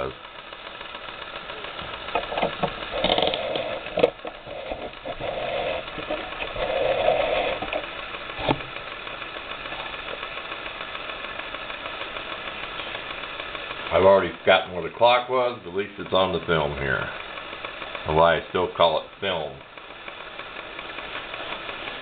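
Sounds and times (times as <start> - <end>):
light rapid ticking: 0.0 - 22.0
stove burning hiss: 0.0 - 22.0.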